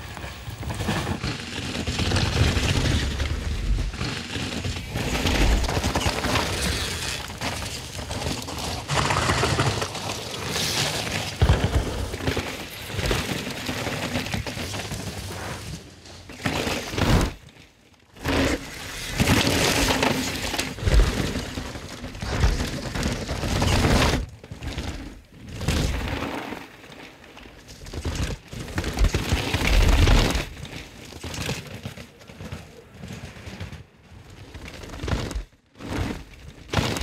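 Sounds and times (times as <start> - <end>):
bike rattling over bumps: 0.0 - 37.0
bike tyres crunching on dirt: 0.0 - 37.0.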